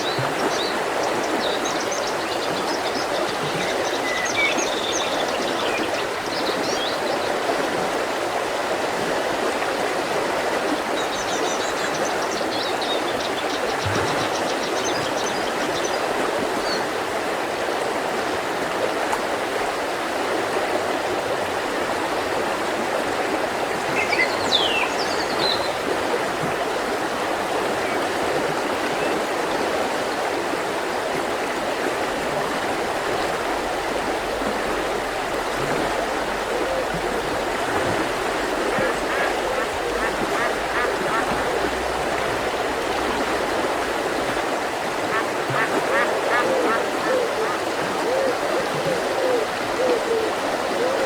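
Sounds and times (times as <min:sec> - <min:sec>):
river flowing: 0:00.0 - 0:51.0.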